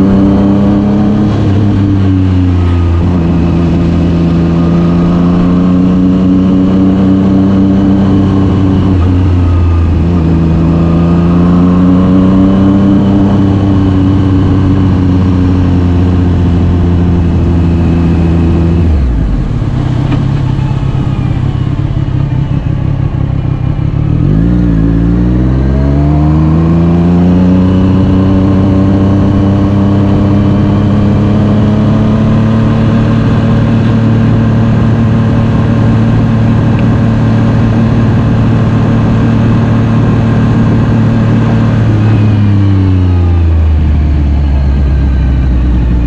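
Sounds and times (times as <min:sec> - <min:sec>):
vehicle engine revving: 0:00.0 - 0:46.0.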